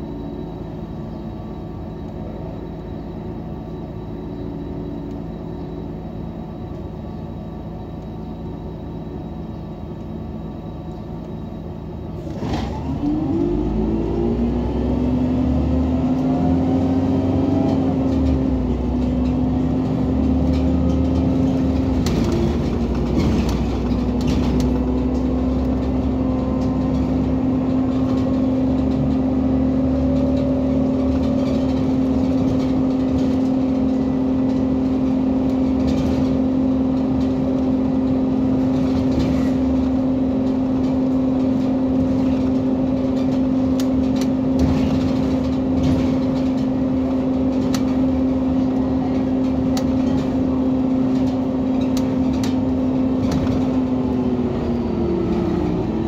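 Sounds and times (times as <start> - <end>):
bus engine humming: 0.0 - 56.0.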